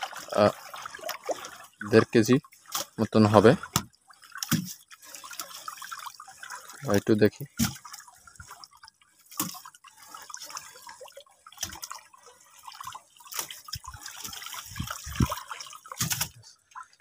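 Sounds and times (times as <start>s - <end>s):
small water splashes: 0.0s - 17.0s
water dripping and lapping: 0.0s - 17.0s.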